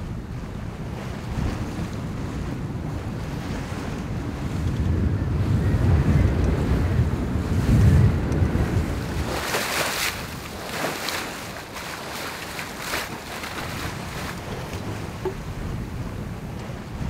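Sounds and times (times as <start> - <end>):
bow wave splashing along hull: 0.0 - 17.0
wind buffeting microphone: 0.0 - 17.0.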